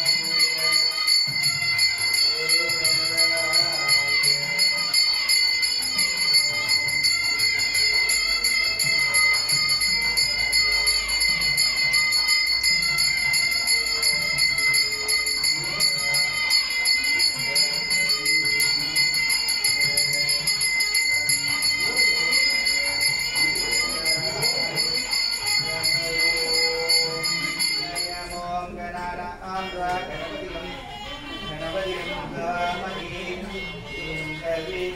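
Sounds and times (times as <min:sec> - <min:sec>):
temple bell ringing: 0:00.0 - 0:30.6.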